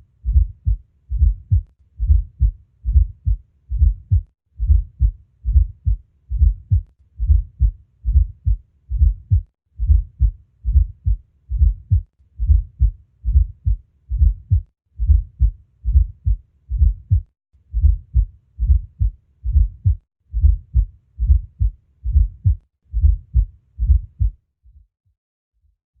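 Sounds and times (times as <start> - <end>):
heartbeat through stethoscope: 0.2 - 24.9.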